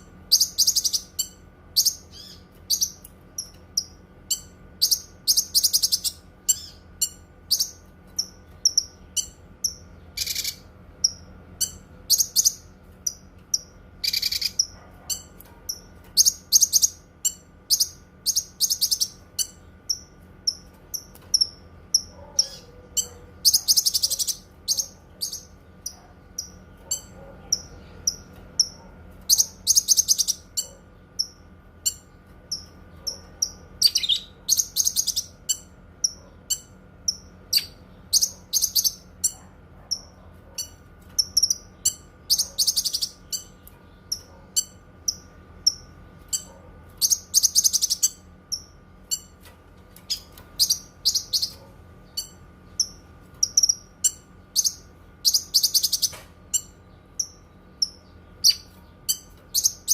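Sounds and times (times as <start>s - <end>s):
faint steady hum: 0.0s - 59.9s
songbird chirping and trilling: 0.0s - 59.9s.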